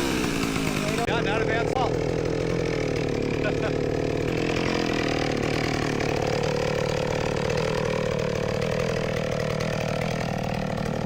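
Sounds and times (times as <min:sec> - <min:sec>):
chainsaw idling: 0:00.0 - 0:11.0.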